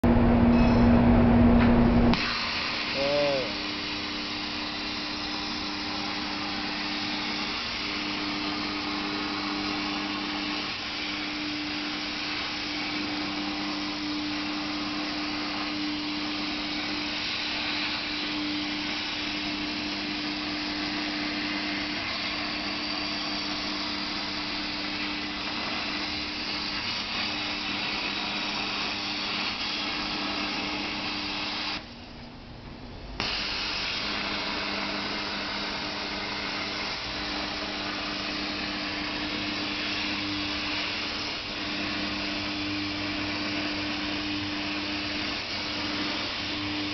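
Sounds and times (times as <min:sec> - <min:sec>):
plasma cutter hissing: 0:02.1 - 0:31.8, 0:33.2 - 0:46.9.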